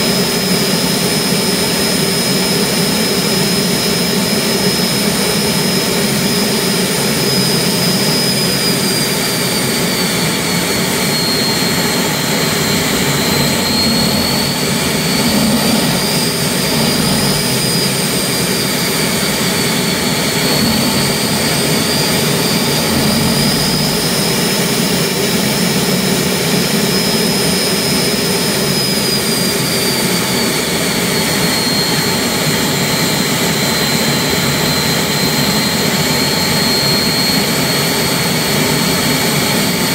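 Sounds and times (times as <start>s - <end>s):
gas turbine engine roar: 0.0s - 39.9s
high turbine whine: 0.0s - 39.9s.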